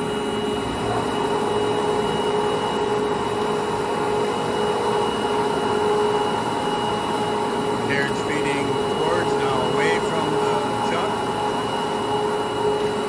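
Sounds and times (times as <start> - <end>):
lathe humming with whine: 0.0 - 13.0.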